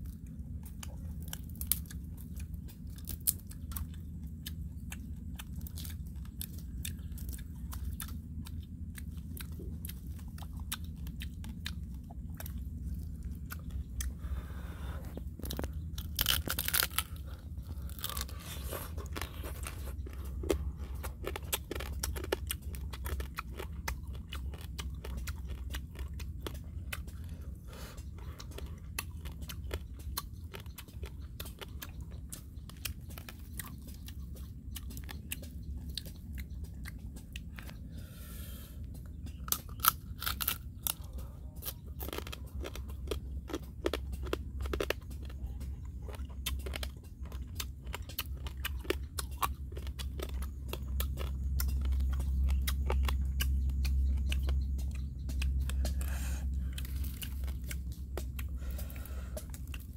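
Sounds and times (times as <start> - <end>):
chewing and crunching shell: 0.0 - 59.9
low rumble: 0.0 - 59.9.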